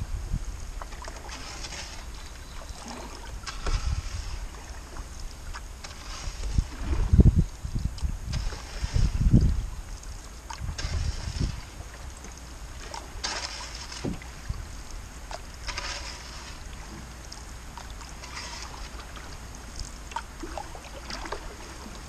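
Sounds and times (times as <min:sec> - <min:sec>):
steady low rumble: 0:00.0 - 0:22.0
paddle swishing water: 0:00.6 - 0:22.0.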